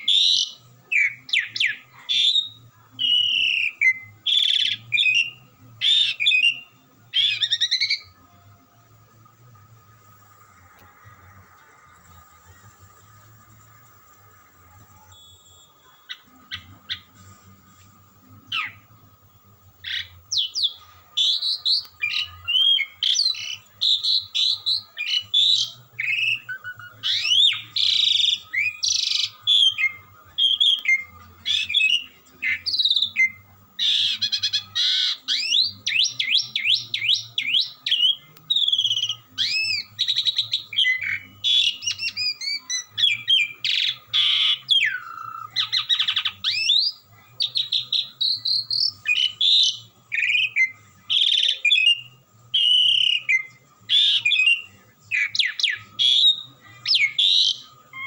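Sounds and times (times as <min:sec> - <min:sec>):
starling singing: 0:00.0 - 0:58.0.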